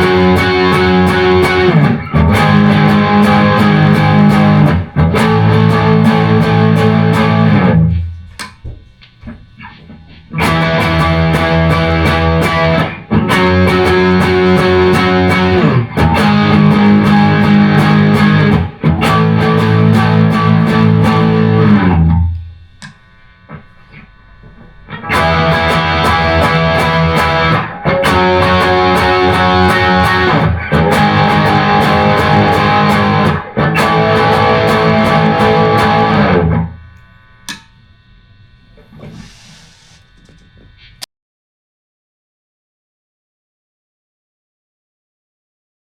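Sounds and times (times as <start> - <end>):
distorted electric guitar chords: 0.0 - 41.0.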